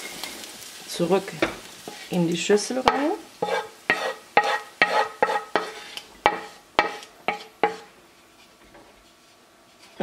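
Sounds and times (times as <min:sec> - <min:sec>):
wooden spoon scraping frying pan: 0:01.6 - 0:10.0.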